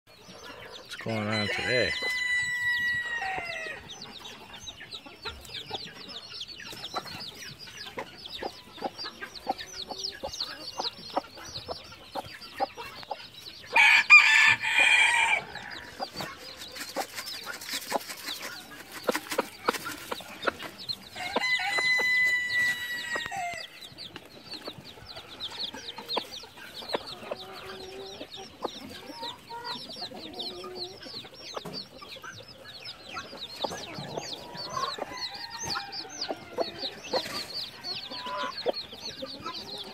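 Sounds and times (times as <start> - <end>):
adult chickens calling: 0.1 - 39.9
chicks peeping: 0.1 - 39.9.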